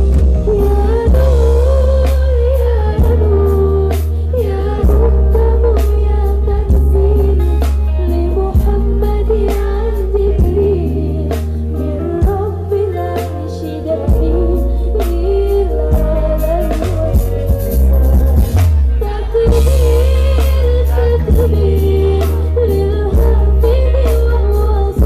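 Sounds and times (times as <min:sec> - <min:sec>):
pop band playing: 0:00.0 - 0:25.0
woman singing: 0:00.0 - 0:25.0.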